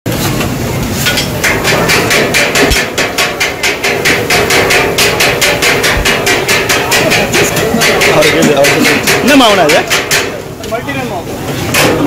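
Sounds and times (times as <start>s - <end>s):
metal spatulas clanging on griddle: 1.0s - 10.8s, 11.7s - 12.0s.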